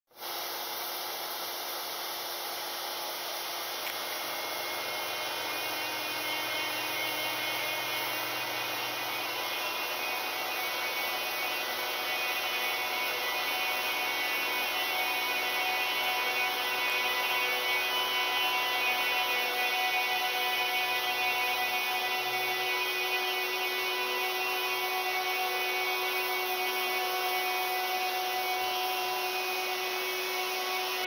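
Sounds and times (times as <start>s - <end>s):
milling cutter hissing on wood: 0.2s - 31.0s.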